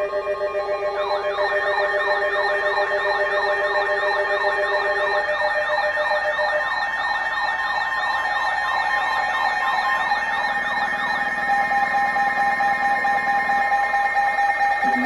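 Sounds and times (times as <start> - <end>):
siren-like warble: 0.0 - 15.0.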